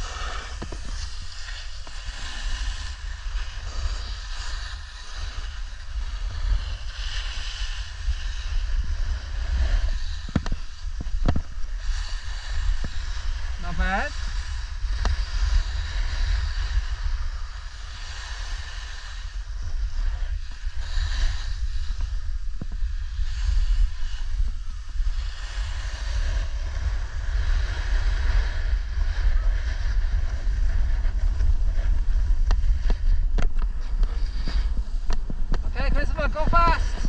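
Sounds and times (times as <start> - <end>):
skis sliding on snow: 0.0 - 37.0
wind buffeting microphone: 0.0 - 37.0.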